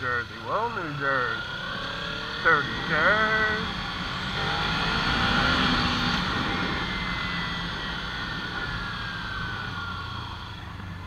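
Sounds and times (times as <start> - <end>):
motorcycle engine whine: 0.0 - 11.0
road and wind noise: 0.0 - 11.0.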